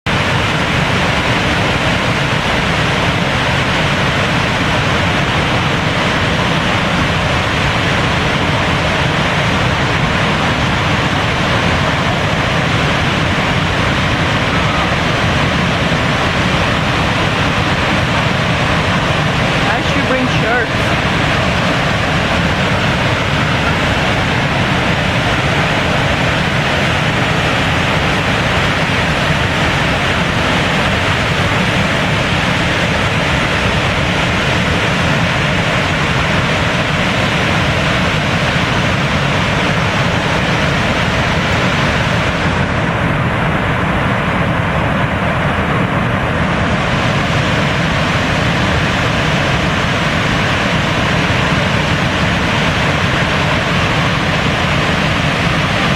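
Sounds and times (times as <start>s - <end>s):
waterfall rushing: 0.1s - 55.9s.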